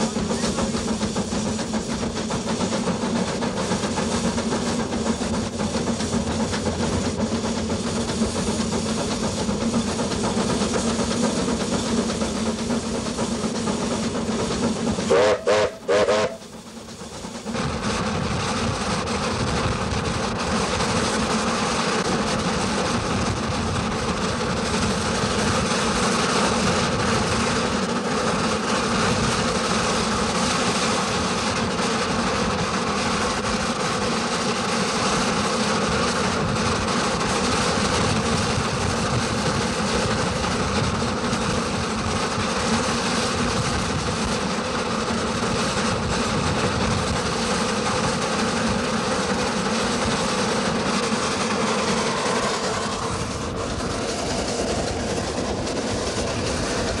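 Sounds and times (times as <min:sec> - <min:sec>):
steam locomotive running: 0:00.0 - 0:57.0.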